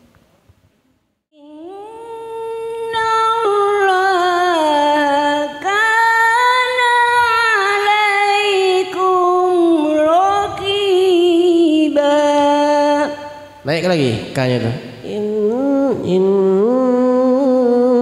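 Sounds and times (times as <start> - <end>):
woman chanting melodically: 1.4 - 13.5, 15.0 - 18.0.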